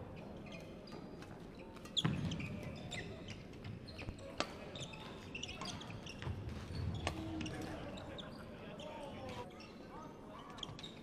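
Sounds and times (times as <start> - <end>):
sneakers squeaking: 0.1 - 9.8, 10.4 - 11.0.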